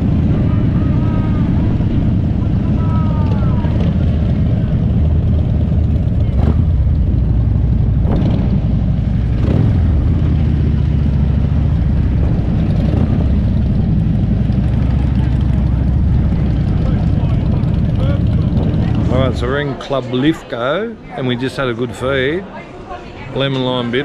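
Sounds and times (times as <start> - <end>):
motorcycle engine rumbling: 0.0 - 20.5.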